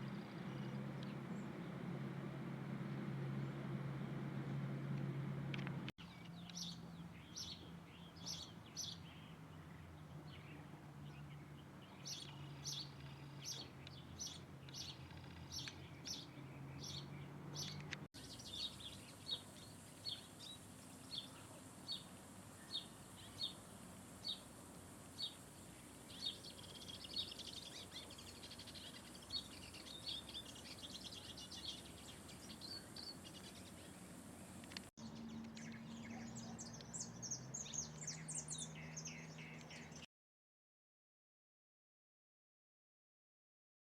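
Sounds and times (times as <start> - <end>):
small birds chirping: 0.0 - 1.8, 5.5 - 40.1.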